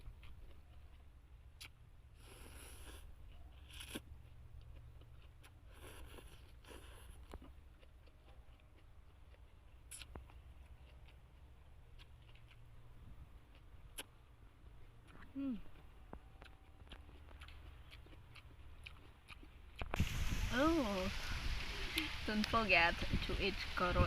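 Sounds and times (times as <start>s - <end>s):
chewing raw vegetables: 0.0s - 21.0s
low steady hum: 0.0s - 24.0s.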